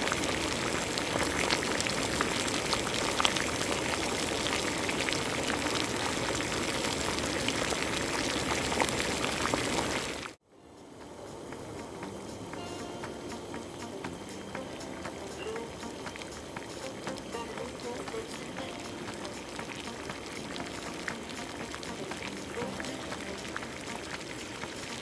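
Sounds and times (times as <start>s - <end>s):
liquid boiling in a pot: 0.0s - 10.4s, 14.3s - 25.0s.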